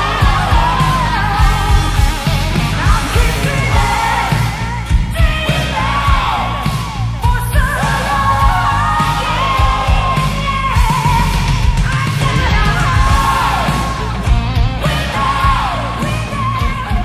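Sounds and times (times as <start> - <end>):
woman singing with vibrato: 0.0 - 14.2, 14.8 - 17.0
bass guitar: 0.0 - 17.0
drums: 0.0 - 17.0
electric guitar: 0.0 - 17.0.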